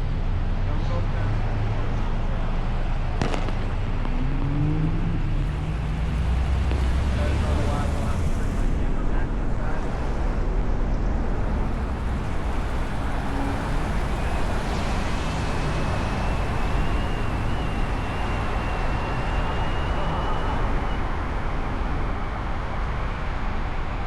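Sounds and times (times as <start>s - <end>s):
road traffic rumble: 0.0s - 24.0s
thin high whine: 4.1s - 24.0s.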